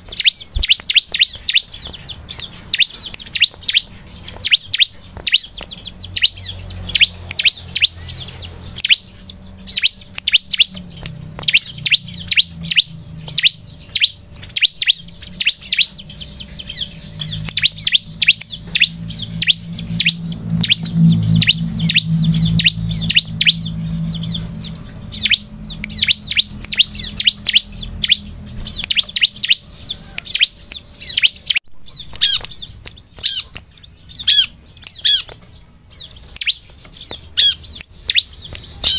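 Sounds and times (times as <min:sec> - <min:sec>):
bird calling in sharp chirps: 0:00.0 - 0:38.9.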